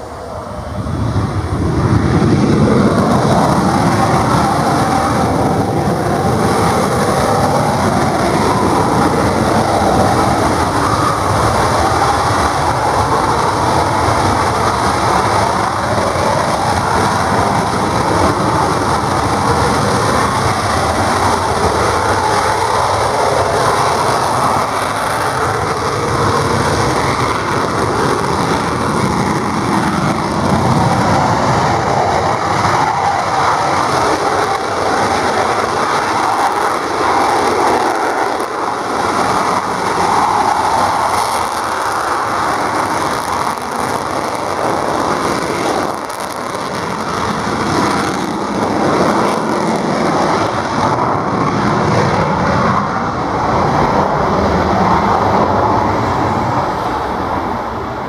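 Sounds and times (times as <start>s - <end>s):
jet engines running loudly: 0.0s - 58.0s.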